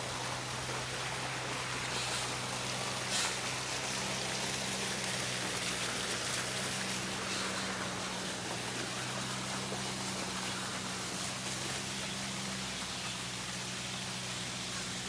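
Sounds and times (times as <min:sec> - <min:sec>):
water splashing into pond: 0:00.0 - 0:15.0.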